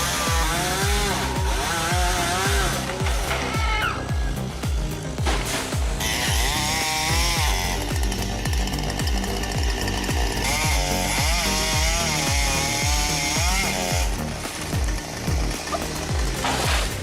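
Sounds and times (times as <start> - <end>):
chainsaw running and cutting: 0.0 - 17.0
music with heavy bass beat: 0.0 - 17.0.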